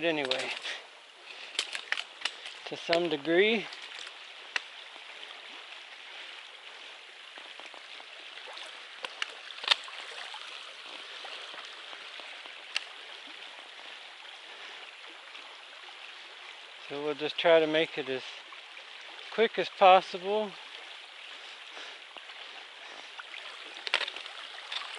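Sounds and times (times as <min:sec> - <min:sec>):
creek water rushing over gravel: 0:00.0 - 0:24.9.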